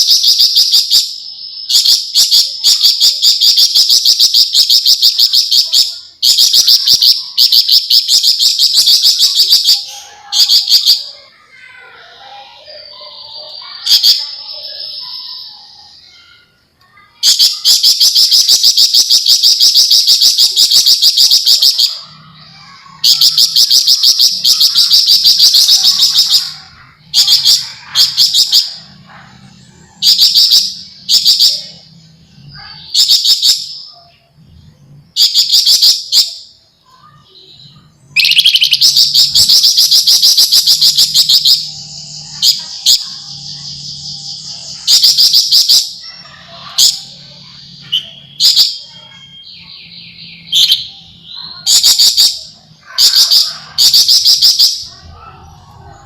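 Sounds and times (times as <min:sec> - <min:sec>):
bird chattering trills: 0:00.0 - 0:56.0.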